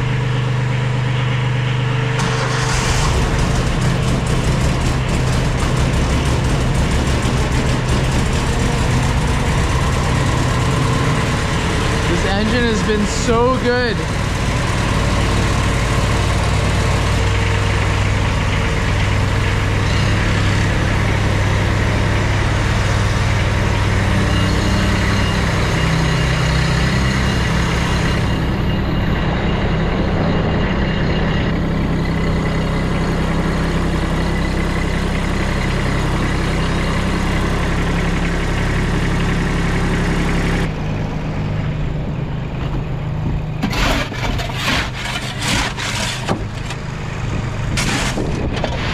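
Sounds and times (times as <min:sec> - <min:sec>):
riding mower engine running: 0:00.0 - 0:48.9.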